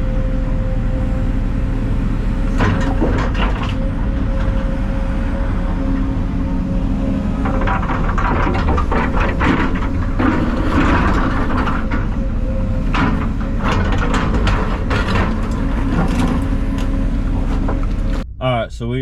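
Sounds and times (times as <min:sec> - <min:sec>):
heavy diesel engine running: 0:00.0 - 0:19.0
clatter and knocks: 0:02.4 - 0:18.2.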